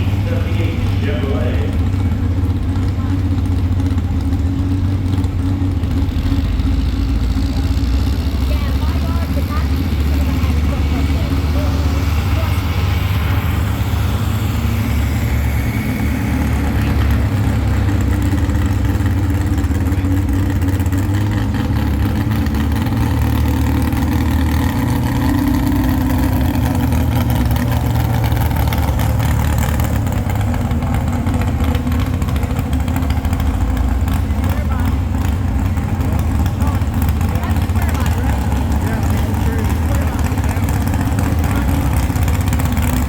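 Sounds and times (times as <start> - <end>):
truck engine running loud: 0.0 - 43.0.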